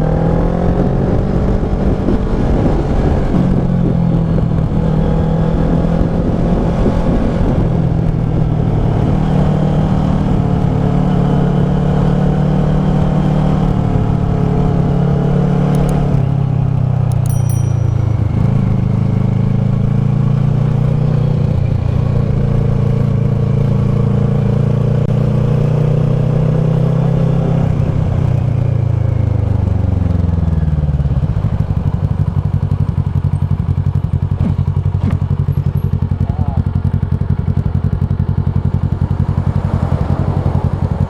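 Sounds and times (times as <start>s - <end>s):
motorcycle engine: 0.0s - 41.0s.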